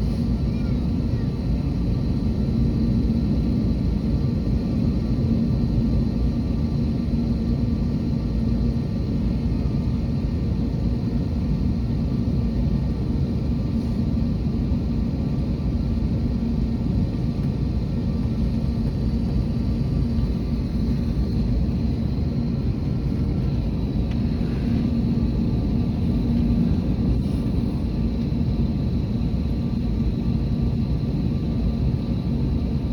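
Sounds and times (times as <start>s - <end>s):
jet engines droning: 0.0s - 32.9s.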